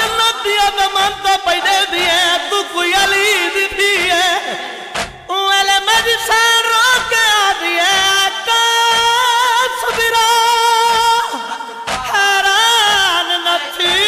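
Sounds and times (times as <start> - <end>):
man singing a lament: 0.0 - 14.0.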